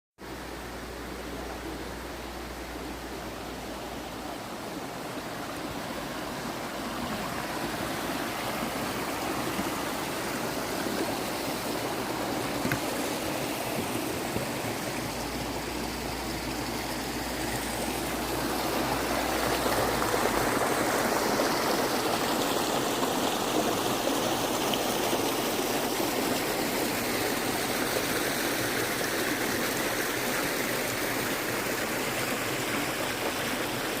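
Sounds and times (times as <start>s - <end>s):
water rushing over rocks: 0.2s - 34.0s.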